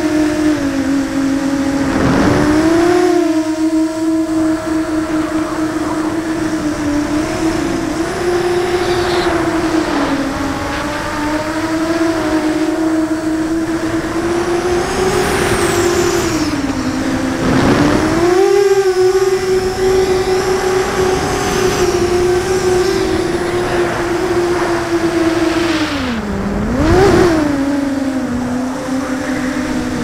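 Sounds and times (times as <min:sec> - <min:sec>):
quadcopter motors humming: 0:00.0 - 0:30.0.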